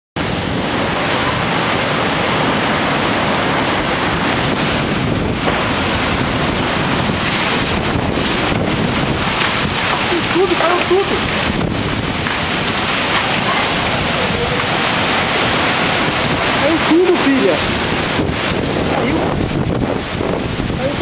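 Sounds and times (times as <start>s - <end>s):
driving rain: 0.2s - 21.0s
strong storm wind: 0.2s - 21.0s
wind buffeting microphone: 0.2s - 21.0s.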